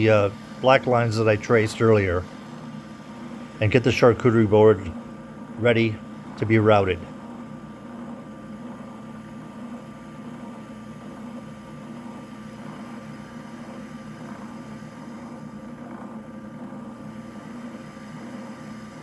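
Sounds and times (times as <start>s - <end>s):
spindle sander humming: 0.0s - 19.0s.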